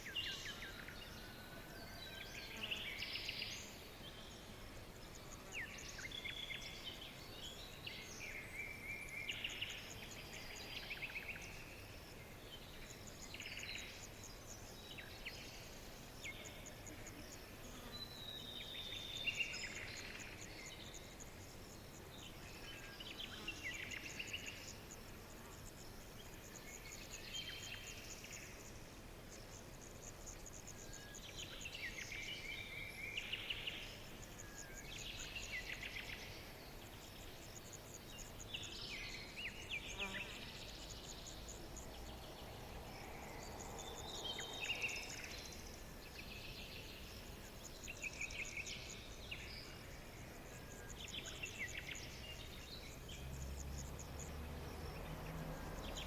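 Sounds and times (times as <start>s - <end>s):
insects chirring: 2.6s - 56.0s.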